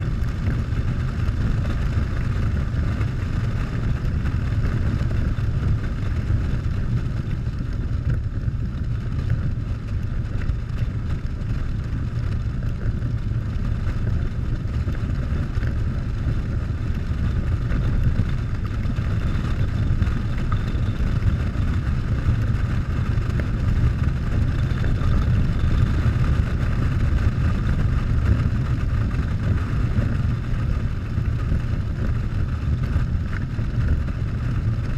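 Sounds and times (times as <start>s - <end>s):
motorcycle engine rumble: 0.0s - 34.9s
wind and road noise: 0.0s - 34.9s.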